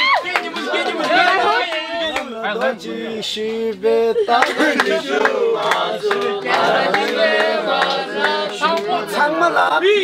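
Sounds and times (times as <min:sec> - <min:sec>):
group of people singing: 0:00.3 - 0:09.9.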